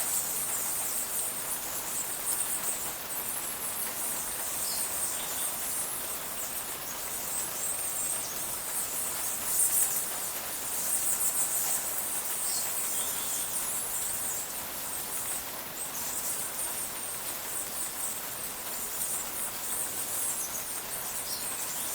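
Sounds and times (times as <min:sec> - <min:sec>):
shrill insect chorus: 0:00.0 - 0:21.9
steady rain: 0:00.0 - 0:21.9.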